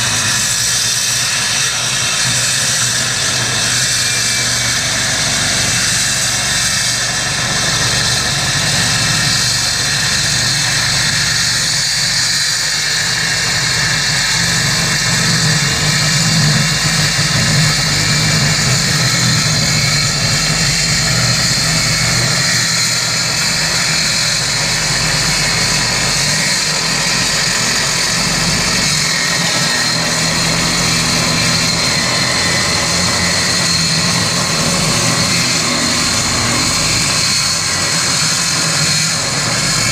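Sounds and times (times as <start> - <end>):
circular saw cutting steel plate: 0.0 - 39.9.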